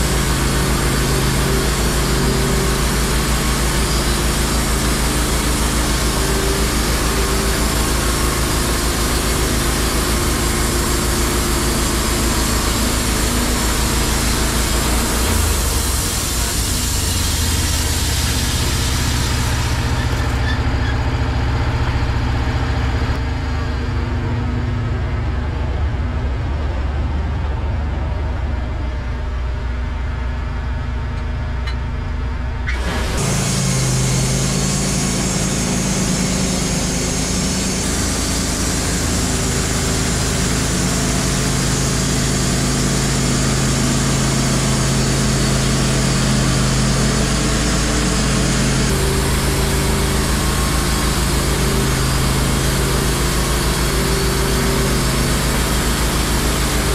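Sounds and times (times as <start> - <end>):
band saw blade cutting log: 0.0 - 22.0, 32.7 - 56.9
sawmill engine running: 0.0 - 56.9.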